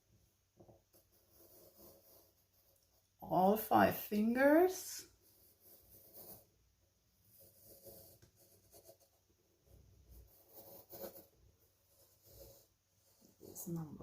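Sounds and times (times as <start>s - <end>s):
pencil scratching on cardboard: 0.9s - 3.6s, 4.3s - 6.6s, 7.2s - 14.0s.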